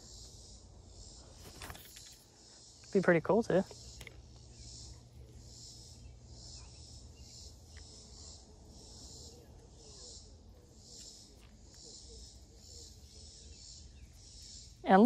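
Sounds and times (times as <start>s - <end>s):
faint insect buzzing: 0.0s - 15.0s.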